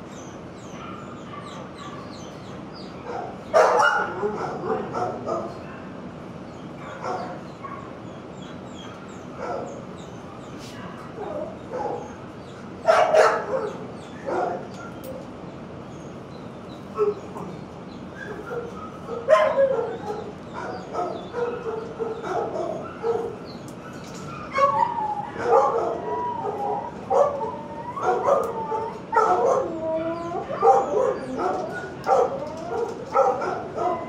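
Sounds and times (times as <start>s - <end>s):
dogs barking: 0.6s - 15.3s, 16.9s - 34.0s.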